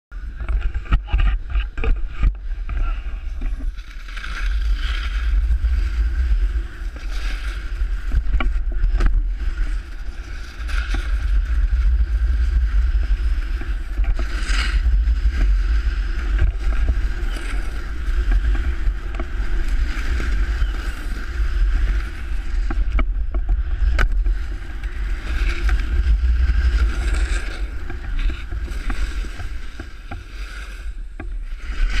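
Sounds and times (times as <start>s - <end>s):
wind rumble on microphone: 0.1s - 32.0s
snowboard scraping over snow: 0.2s - 32.0s.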